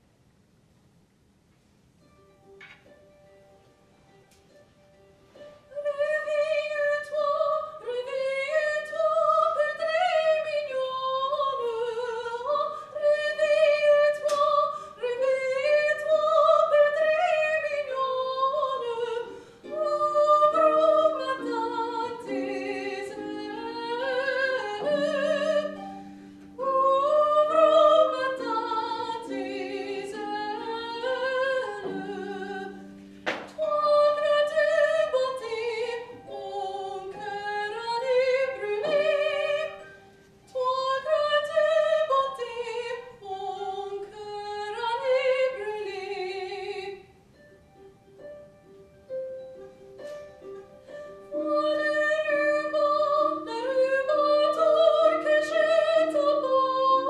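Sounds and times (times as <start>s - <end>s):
harp: 2.0s - 57.0s
woman singing with vibrato: 5.7s - 39.9s, 40.5s - 47.2s, 51.2s - 57.0s.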